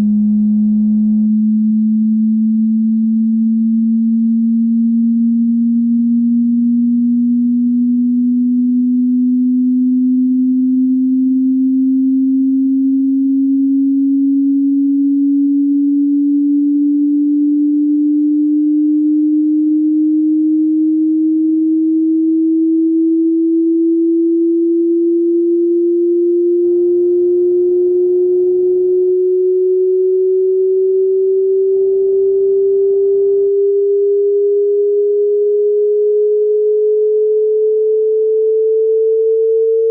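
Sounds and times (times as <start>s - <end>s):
sine tone sweeping upward: 0.0s - 39.9s.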